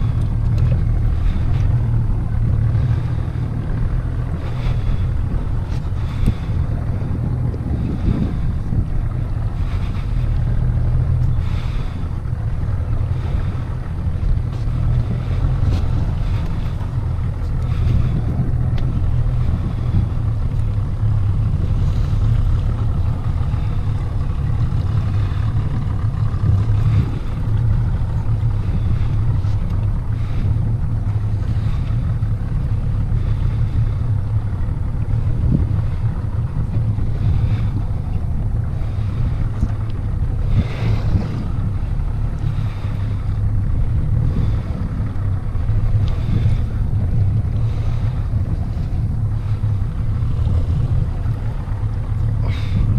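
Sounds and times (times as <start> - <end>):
boat motor running: 0.0 - 52.9
water noise: 0.0 - 52.9
wind: 0.0 - 52.9.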